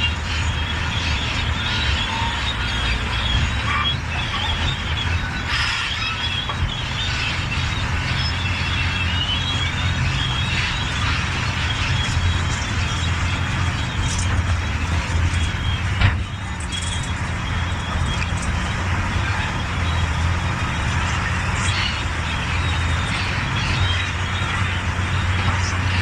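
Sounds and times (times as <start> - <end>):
bulldozer diesel engine: 0.0 - 26.0.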